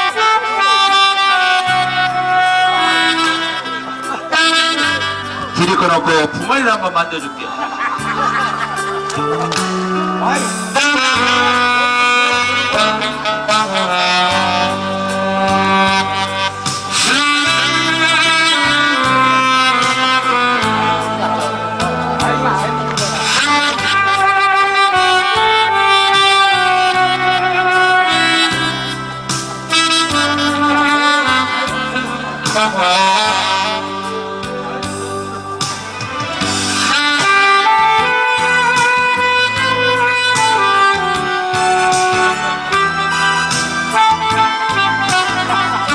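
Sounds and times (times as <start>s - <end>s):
backing track with bass line: 0.0s - 45.9s
solo horn melody: 0.0s - 45.9s.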